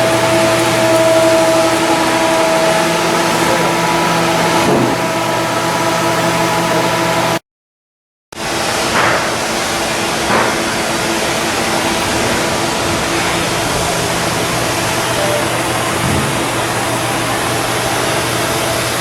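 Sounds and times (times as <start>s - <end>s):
loud machinery hum: 0.0s - 7.4s, 8.4s - 19.0s.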